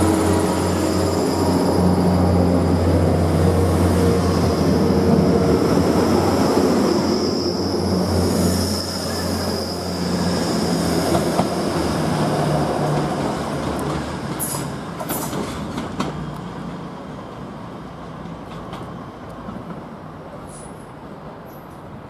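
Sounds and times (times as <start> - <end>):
diesel train engine drone: 0.0 - 22.0.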